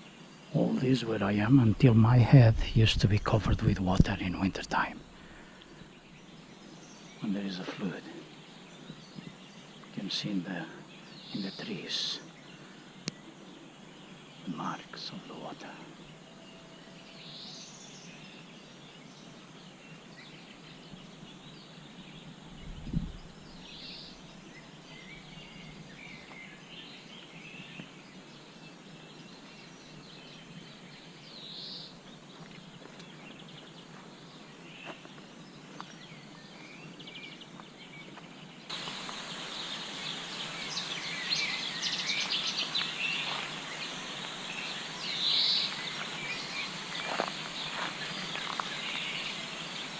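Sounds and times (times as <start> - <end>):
background hiss: 0.0 - 49.9
small birds singing: 0.0 - 49.9.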